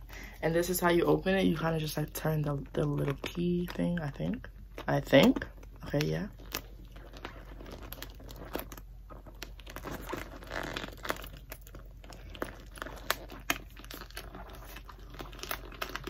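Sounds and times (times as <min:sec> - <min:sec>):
plastic bag crinkling: 0:00.6 - 0:16.0
packing paper crackle: 0:02.6 - 0:16.0.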